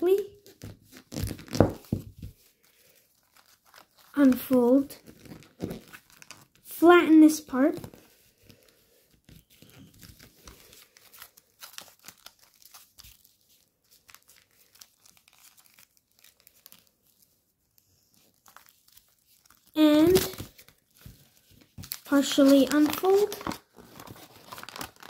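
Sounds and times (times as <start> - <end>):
foil paper crinkling: 0.4 - 6.7, 7.5 - 25.0.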